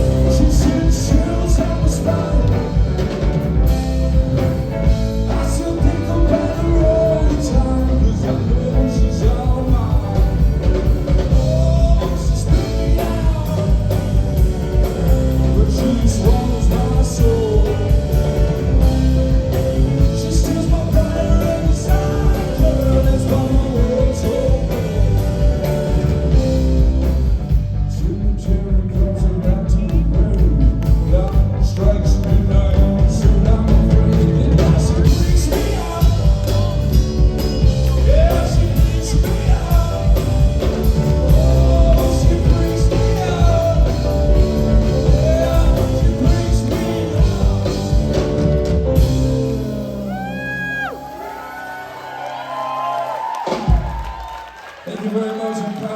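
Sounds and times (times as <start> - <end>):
person singing: 0.0 - 26.8, 27.8 - 51.8
drum-kit beat: 0.0 - 49.5
guitar: 0.0 - 54.1.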